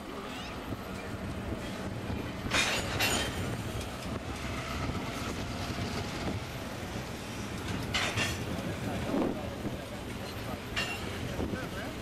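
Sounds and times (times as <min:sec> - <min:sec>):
locomotive diesel engine rumbling: 0:00.0 - 0:12.0.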